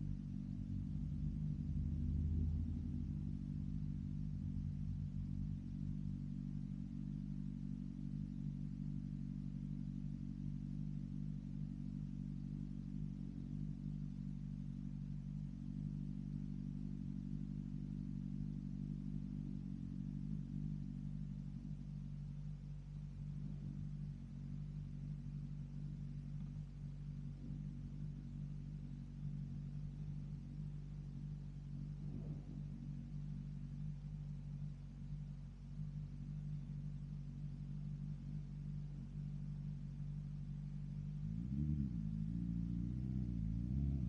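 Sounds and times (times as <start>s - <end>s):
motorcycle engine humming: 0.0s - 44.0s.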